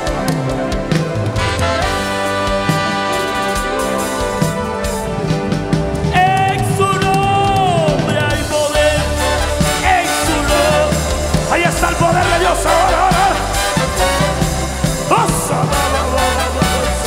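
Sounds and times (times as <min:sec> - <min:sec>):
bass line: 0:00.0 - 0:17.0
drums: 0:00.0 - 0:17.0
live praise band music: 0:00.0 - 0:17.0
person singing: 0:00.0 - 0:17.0.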